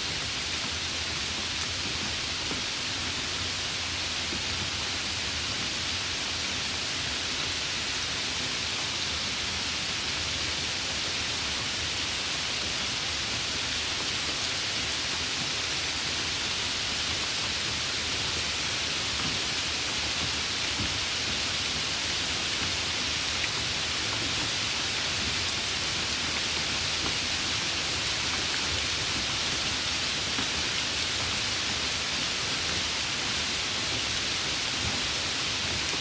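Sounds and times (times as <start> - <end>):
light rain hissing: 0.0 - 36.0.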